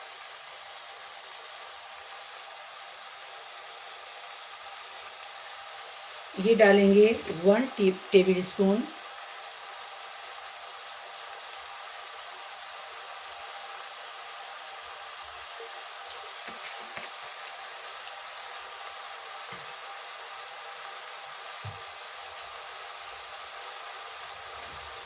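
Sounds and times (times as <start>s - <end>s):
filling sizzling in a pan: 0.0s - 25.0s.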